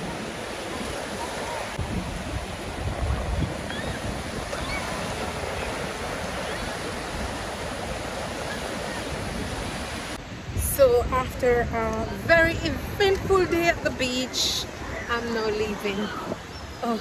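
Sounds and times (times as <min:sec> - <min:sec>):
sea waves washing on beach: 0:00.0 - 0:17.0.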